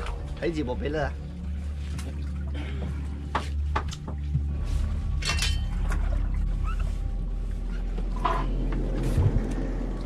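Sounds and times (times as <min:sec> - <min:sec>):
background music: 0:00.0 - 0:10.0
water sloshing against hull: 0:00.0 - 0:10.0.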